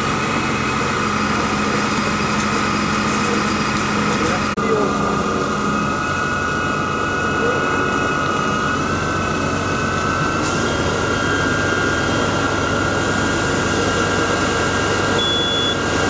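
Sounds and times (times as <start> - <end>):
pump running with high whine: 0.0 - 16.0.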